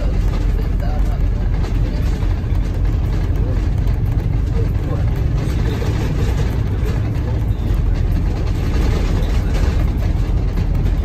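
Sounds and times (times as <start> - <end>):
bus diesel engine drone: 0.0 - 11.0
road and tyre noise: 0.0 - 11.0.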